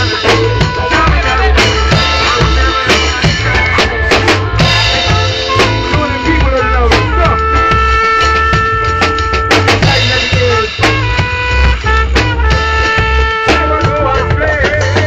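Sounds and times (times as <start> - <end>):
bass drum and snare hits: 0.0 - 15.0
rock band playing: 0.0 - 15.0.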